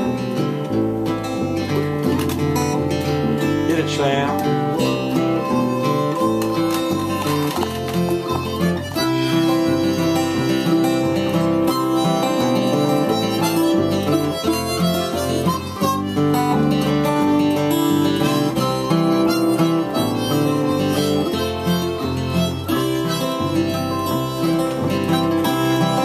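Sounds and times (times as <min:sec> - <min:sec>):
acoustic guitar strumming chords: 0:00.0 - 0:26.0
harmonica playing: 0:00.0 - 0:26.0.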